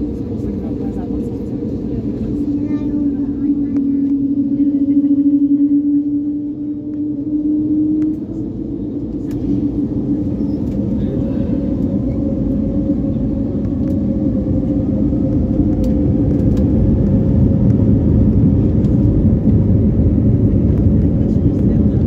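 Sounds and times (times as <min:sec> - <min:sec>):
jet cabin rumble and engine hum: 0:00.0 - 0:22.0.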